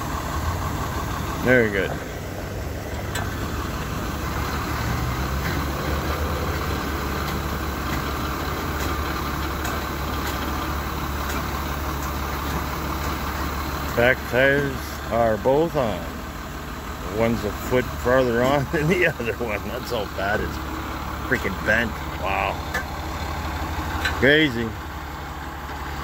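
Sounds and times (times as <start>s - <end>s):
truck engine running: 0.0s - 26.0s
winch pulling: 1.3s - 26.0s.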